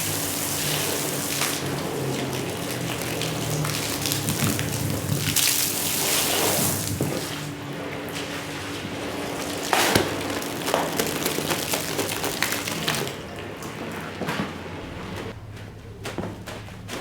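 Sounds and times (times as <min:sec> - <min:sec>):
wet hissing wash: 0:00.0 - 0:15.3.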